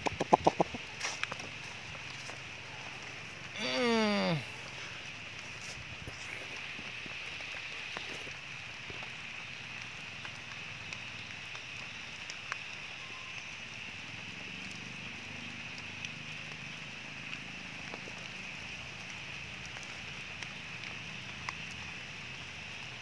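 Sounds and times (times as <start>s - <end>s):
rain falling on leaves: 0.0s - 23.0s.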